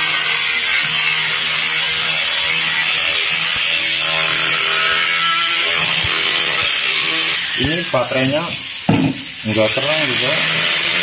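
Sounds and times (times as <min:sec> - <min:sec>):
rotary tool grinding metal: 0:00.0 - 0:11.0.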